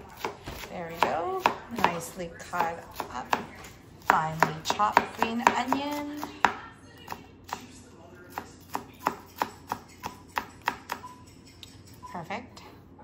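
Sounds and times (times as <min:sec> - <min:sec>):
knife chopping on cutting board: 0:00.0 - 0:07.7, 0:08.3 - 0:11.2.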